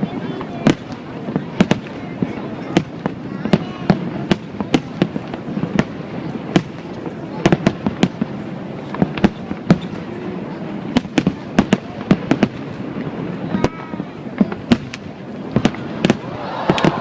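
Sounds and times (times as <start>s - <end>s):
fireworks exploding: 0.0s - 17.0s.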